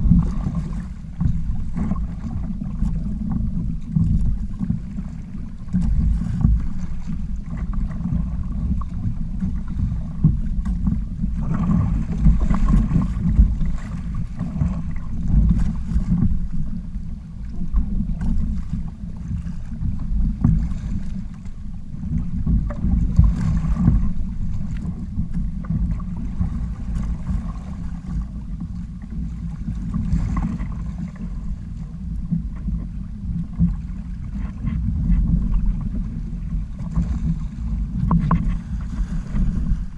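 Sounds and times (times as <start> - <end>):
water splashing against hulls: 0.0 - 39.9
wind buffeting microphone: 0.0 - 39.9.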